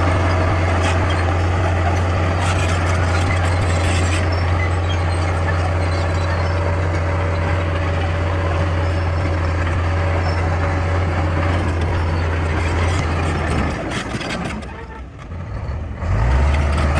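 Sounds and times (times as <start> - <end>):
bulldozer diesel engine droning: 0.0 - 16.9.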